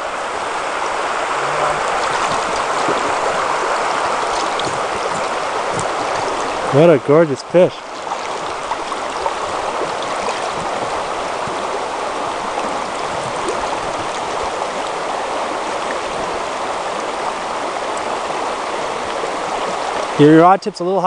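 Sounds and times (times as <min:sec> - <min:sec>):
river flowing over rocks: 0:00.0 - 0:21.0.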